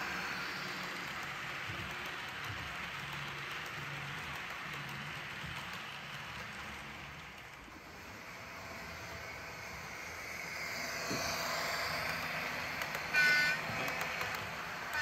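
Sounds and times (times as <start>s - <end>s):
model train locomotive hum and whine: 0.0s - 15.0s.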